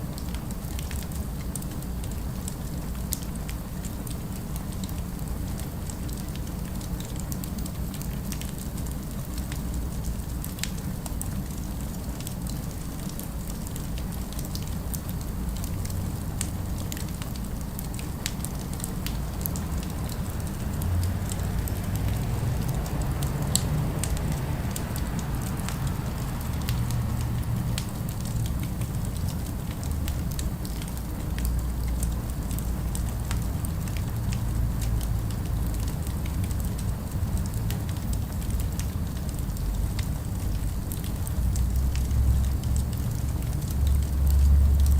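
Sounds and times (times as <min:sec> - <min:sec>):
low city ambience rumble: 0:00.0 - 0:44.9
wood fire crackling and popping: 0:00.2 - 0:44.9.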